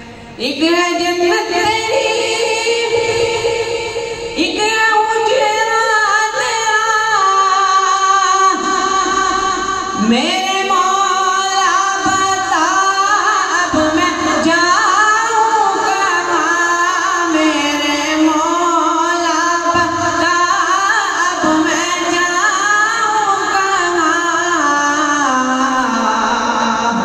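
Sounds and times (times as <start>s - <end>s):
boy singing into microphone: 0.0s - 27.0s.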